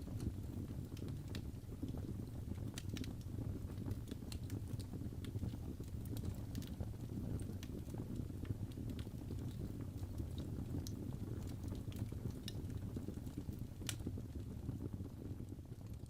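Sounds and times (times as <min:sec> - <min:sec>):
low rumble of flames: 0:00.0 - 0:16.0
wood fire snaps and pops: 0:00.0 - 0:16.0.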